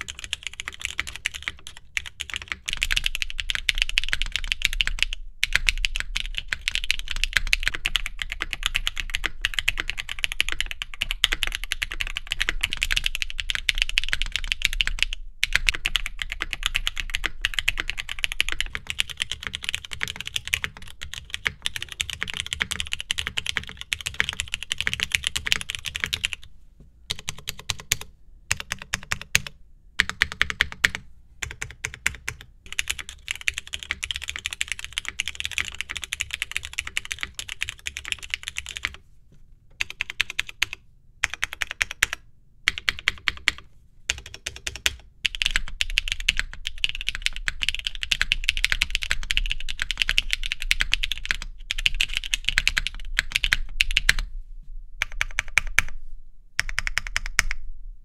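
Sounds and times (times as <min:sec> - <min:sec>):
mechanical keyboard clicking: 0:00.0 - 0:26.4, 0:27.1 - 0:39.0, 0:39.8 - 0:54.2.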